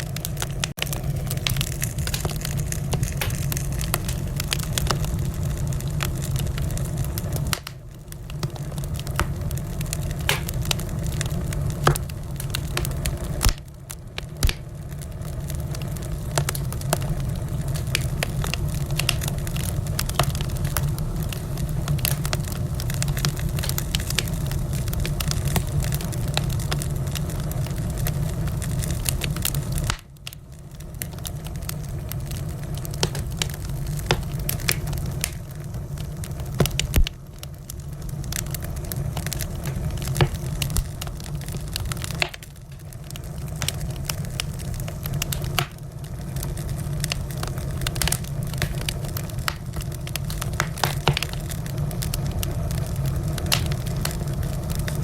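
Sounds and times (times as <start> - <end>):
burning logs popping and snapping: 0.0 - 55.0
low rumble of flames: 0.0 - 55.0.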